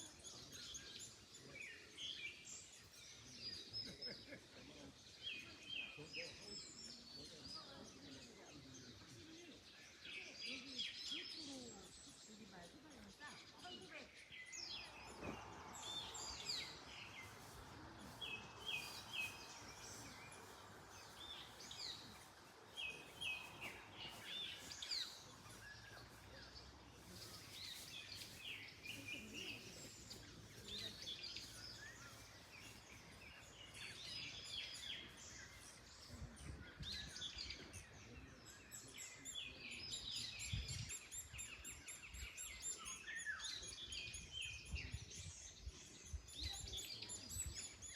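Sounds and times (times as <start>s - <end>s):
birds chirping and singing: 0.0s - 47.9s
wind through tree leaves: 0.0s - 47.9s.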